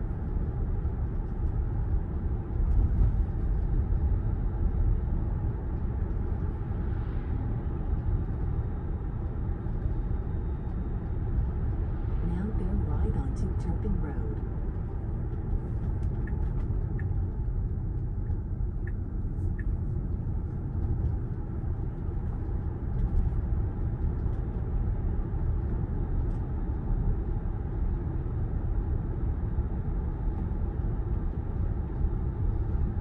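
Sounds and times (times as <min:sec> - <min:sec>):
road and tyre rumble: 0:00.0 - 0:33.0.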